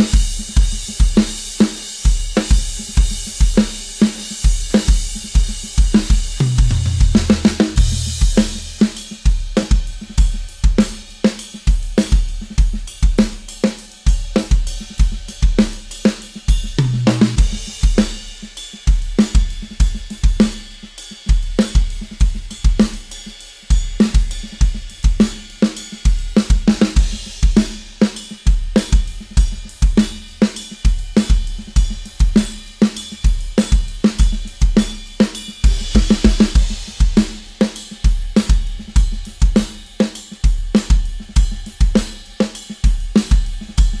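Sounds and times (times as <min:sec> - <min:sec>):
cymbal crashes: 0:00.0 - 0:44.0
drum kit playing fast beat: 0:00.0 - 0:44.0.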